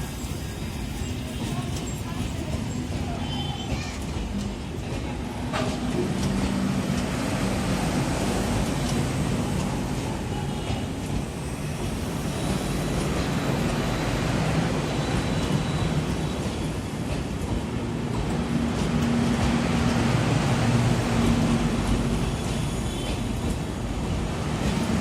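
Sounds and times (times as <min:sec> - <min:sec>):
passenger train rumbling: 0:00.0 - 0:25.0.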